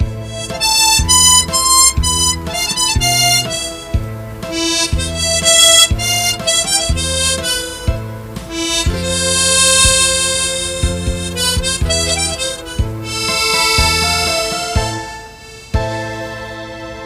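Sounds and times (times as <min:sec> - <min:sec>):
backing track bass beat: 0:00.0 - 0:16.3
harmonica melody: 0:00.0 - 0:17.0.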